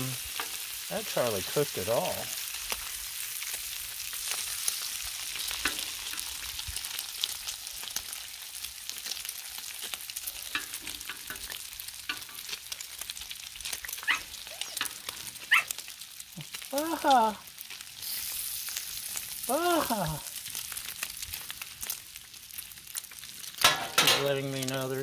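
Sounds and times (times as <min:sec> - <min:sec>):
bacon sizzling on griddle: 0:00.0 - 0:25.0
fat crackling and popping: 0:00.0 - 0:25.0.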